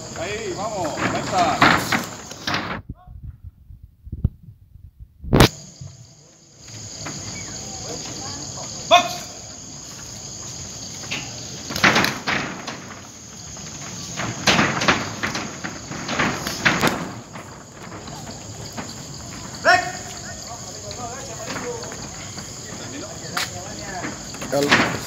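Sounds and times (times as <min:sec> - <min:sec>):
night insects chorus: 0:00.0 - 0:02.8, 0:05.3 - 0:25.0.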